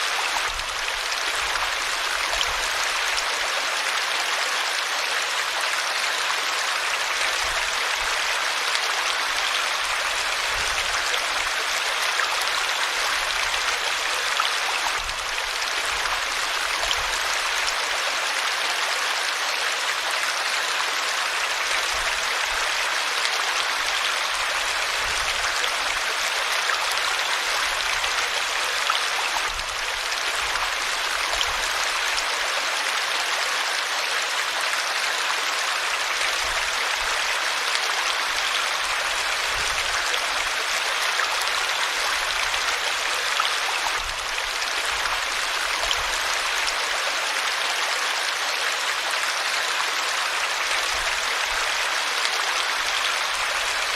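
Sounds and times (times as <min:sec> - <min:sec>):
river water flowing over rocks: 0:00.0 - 0:53.9.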